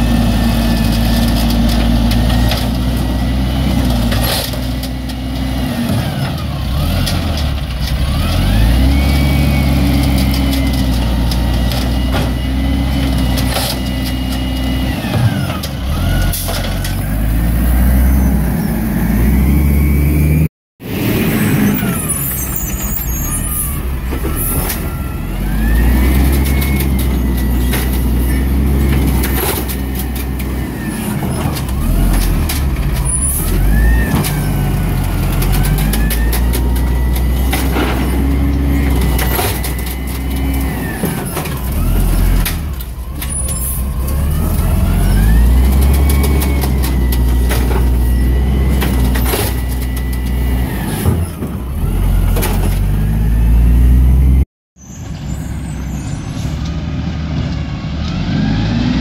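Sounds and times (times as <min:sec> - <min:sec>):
garbage truck engine revving: 0:00.0 - 0:54.5, 0:55.4 - 0:59.0
hydraulics whining: 0:00.0 - 0:59.0.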